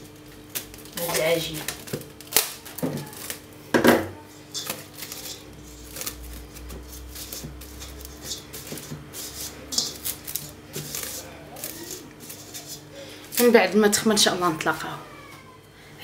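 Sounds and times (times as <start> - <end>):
cling film crinkling: 0.0 - 3.5, 4.4 - 13.8.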